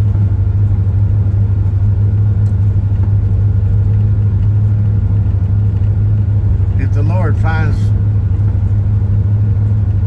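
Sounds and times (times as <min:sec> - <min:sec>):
engine and road noise: 0:00.0 - 0:10.0.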